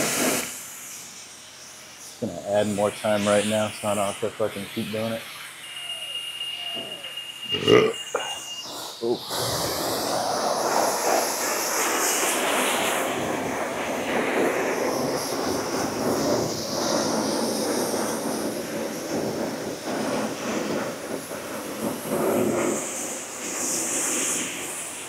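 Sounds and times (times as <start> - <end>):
pressure washer spraying car: 0.0 - 7.5, 8.2 - 25.0.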